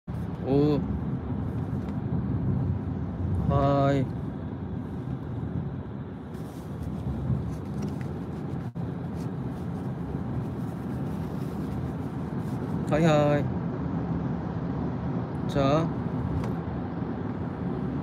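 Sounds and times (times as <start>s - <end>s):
car road and engine noise: 0.1s - 18.0s.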